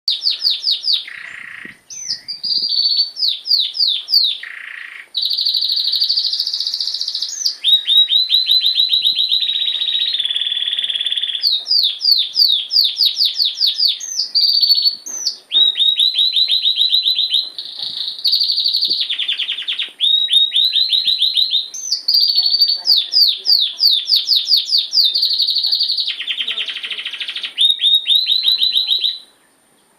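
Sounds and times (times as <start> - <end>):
canary singing trills: 0.1 - 29.4.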